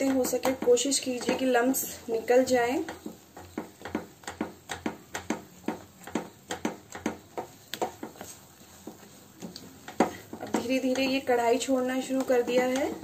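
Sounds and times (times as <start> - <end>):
spatula knocking and scraping pan: 0.0 - 13.0.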